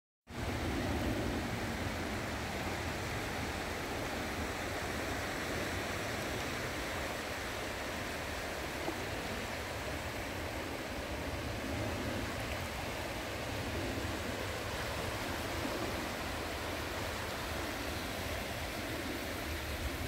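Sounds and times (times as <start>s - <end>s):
small waves washing on sand: 0.3s - 20.0s
wind rumble on microphone: 0.3s - 20.0s.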